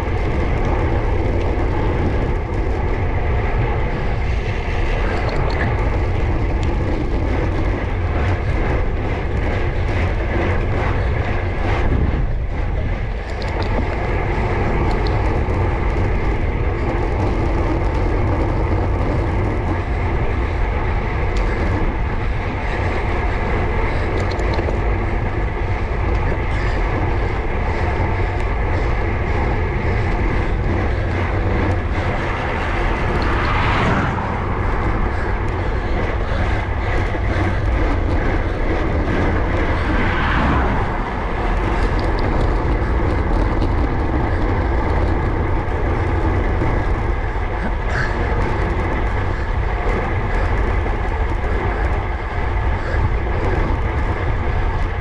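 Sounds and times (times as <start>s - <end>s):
tyres humming on tarmac: 0.0s - 55.0s
wind buffeting microphone: 0.0s - 55.0s.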